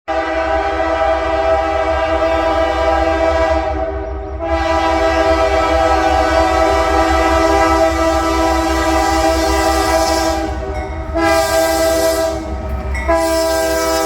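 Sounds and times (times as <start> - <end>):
locomotive air horn: 0.1 - 14.0.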